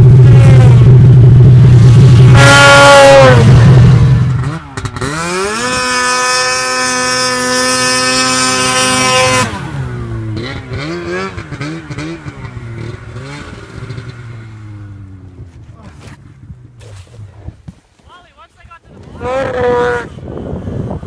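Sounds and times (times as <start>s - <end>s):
snowmobile engine revving: 0.0s - 17.6s, 18.9s - 21.0s.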